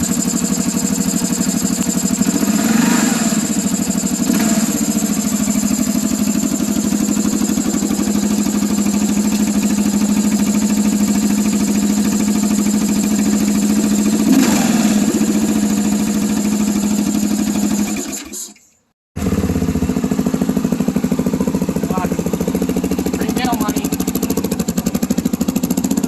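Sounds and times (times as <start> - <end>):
motorcycle engine idling: 0.0 - 18.3, 19.2 - 26.0.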